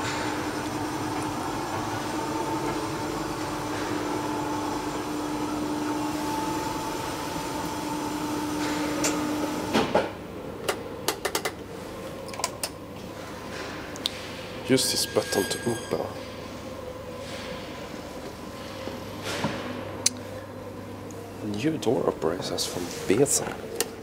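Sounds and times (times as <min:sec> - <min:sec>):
platform lift electric drive humming: 0:00.0 - 0:24.0.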